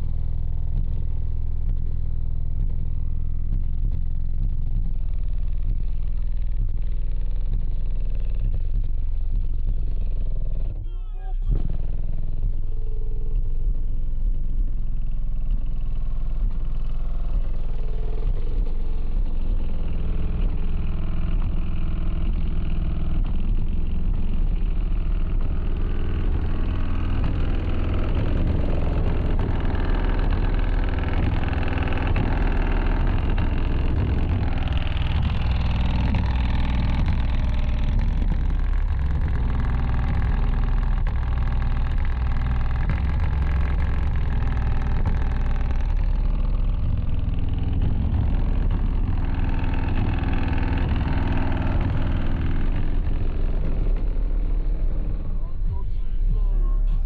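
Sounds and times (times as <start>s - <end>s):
bass-heavy music from car subwoofers: 0.0s - 57.0s.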